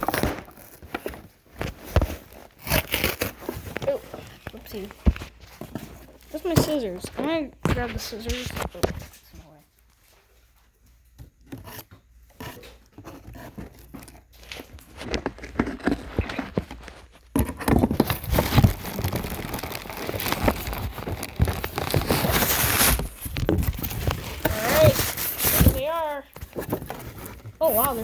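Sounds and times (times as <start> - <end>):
package rustling and tearing: 0.0 - 7.2, 12.6 - 28.0.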